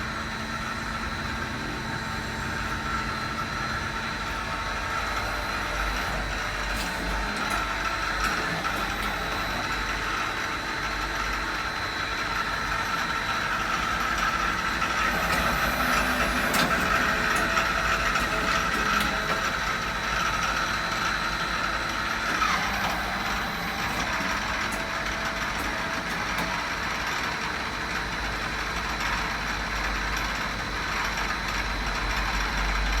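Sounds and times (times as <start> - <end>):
lathe mechanical hum and whine: 0.0 - 33.0.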